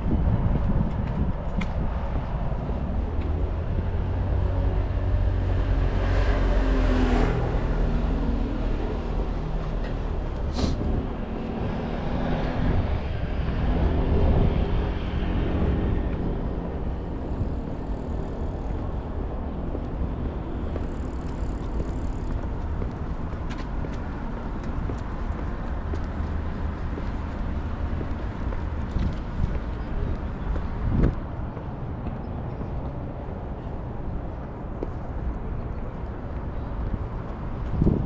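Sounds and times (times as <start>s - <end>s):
cars passing: 0.0s - 38.0s
low rumble of traffic: 0.0s - 38.0s.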